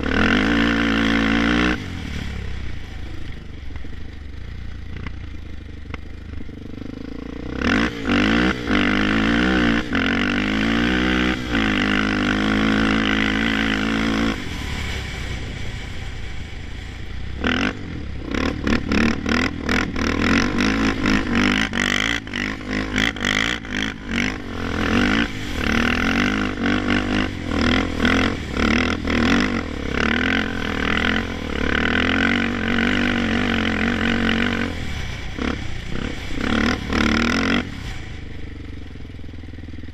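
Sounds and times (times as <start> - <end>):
quad engine revving at limiter: 0.0 - 3.0, 5.9 - 16.4, 17.4 - 38.6.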